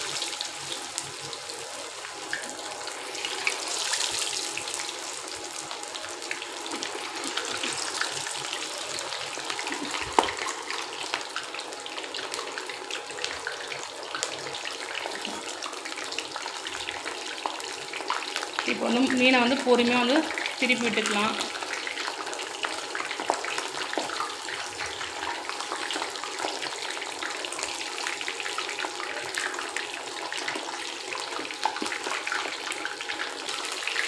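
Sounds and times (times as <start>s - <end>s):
fish deep-frying in hot oil: 0.0s - 34.0s.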